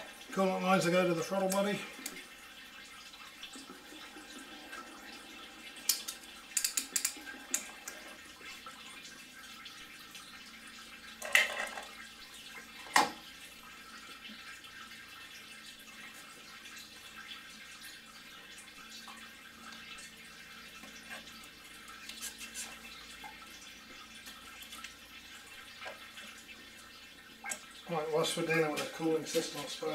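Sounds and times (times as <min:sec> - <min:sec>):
coolant trickling: 0:00.0 - 0:29.9.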